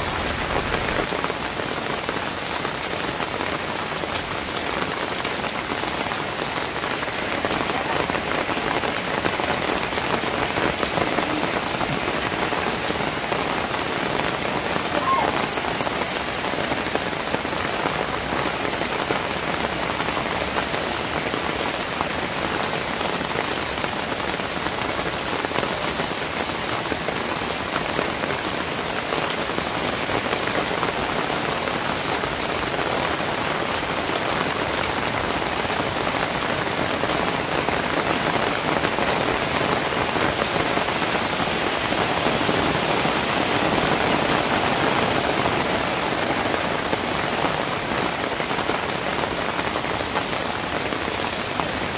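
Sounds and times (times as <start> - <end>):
steady rain on pavement: 0.0 - 51.9.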